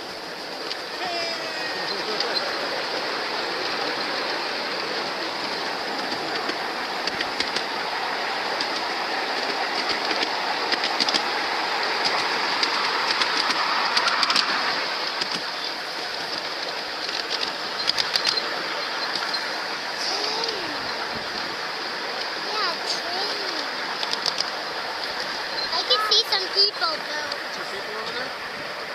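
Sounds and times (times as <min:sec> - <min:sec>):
sharp clicks of train wheels: 0:00.0 - 0:01.0, 0:01.8 - 0:28.9
train wheels rumbling on rail: 0:00.0 - 0:28.9.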